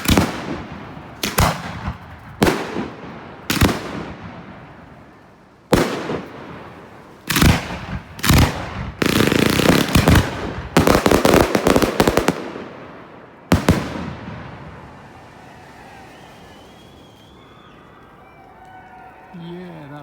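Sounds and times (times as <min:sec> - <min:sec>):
firework bangs: 0:00.0 - 0:18.0
firework crackling: 0:00.0 - 0:18.4.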